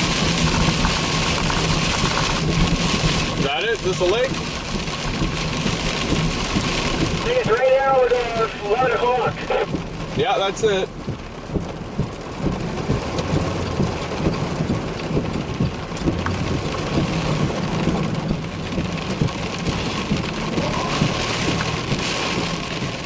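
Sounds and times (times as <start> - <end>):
heavy rain falling: 0.0 - 23.0
low rumble: 0.0 - 23.0.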